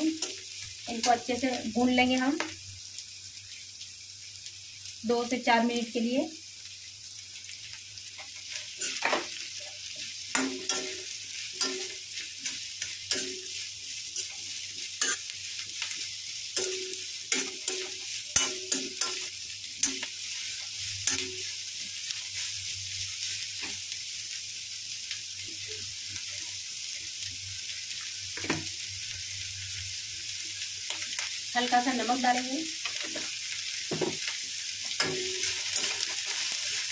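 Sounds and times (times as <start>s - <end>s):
vegetables sizzling in oil: 0.0s - 36.9s.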